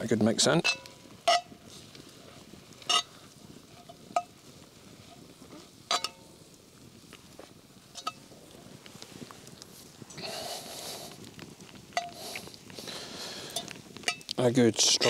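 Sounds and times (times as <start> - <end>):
faint sizzle: 0.0 - 15.0.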